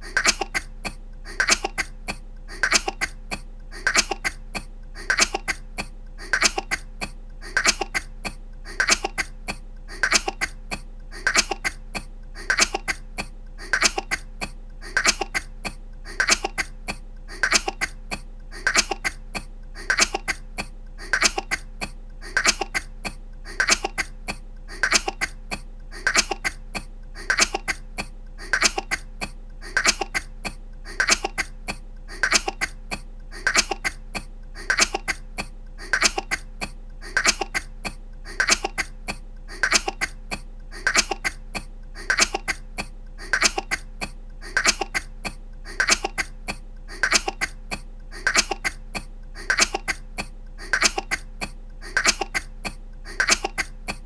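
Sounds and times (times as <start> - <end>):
woman coughing: 0.0 - 54.0.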